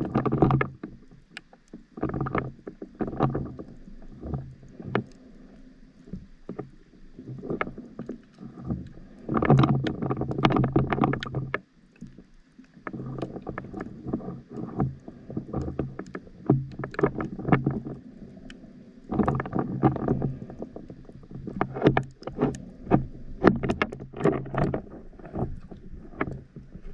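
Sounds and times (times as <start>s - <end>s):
sharp clicks and crackles: 0.0s - 26.9s.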